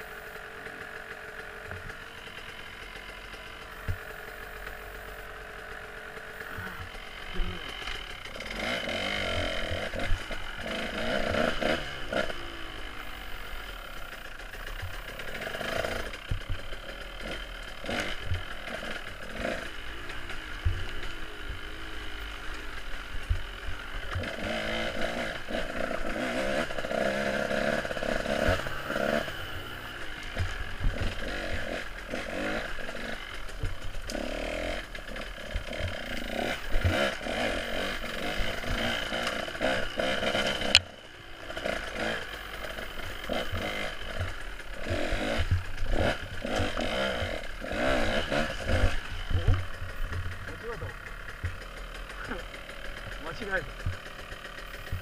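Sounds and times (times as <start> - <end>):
bike knocking and rattling: 0.0 - 55.0
motorcycle engine revving: 0.0 - 55.0.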